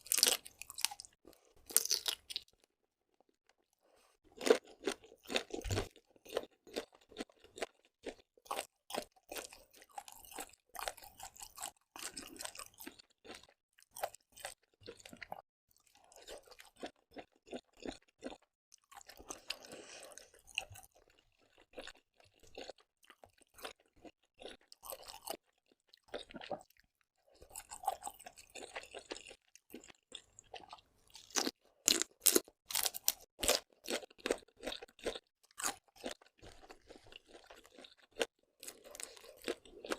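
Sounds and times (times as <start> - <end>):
chewing with crunches: 0.0 - 39.9.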